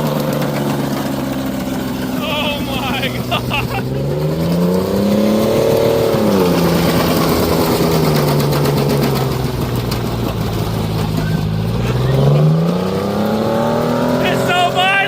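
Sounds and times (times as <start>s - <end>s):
pickup truck engine revving: 0.0s - 15.0s.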